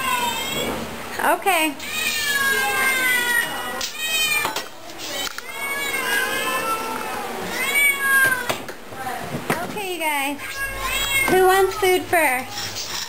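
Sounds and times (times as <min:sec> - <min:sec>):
cats meowing: 0:00.0 - 0:00.9, 0:01.8 - 0:08.7, 0:10.4 - 0:13.0.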